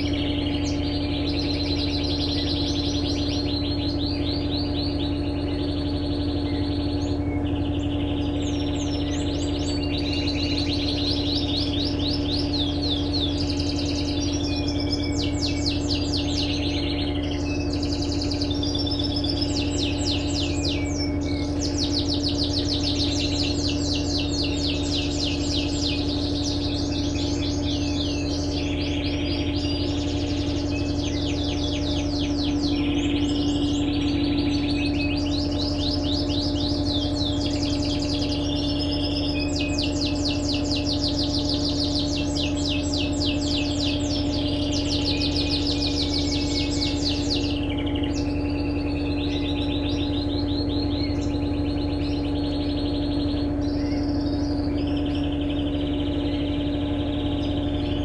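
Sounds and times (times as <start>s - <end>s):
small birds chirping: 0.0s - 58.0s
washing machine humming: 0.0s - 58.0s.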